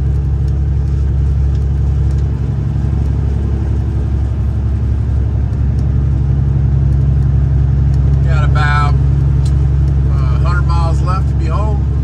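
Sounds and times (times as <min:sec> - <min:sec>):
road noise: 0:00.0 - 0:12.0
truck diesel engine running: 0:00.0 - 0:12.0.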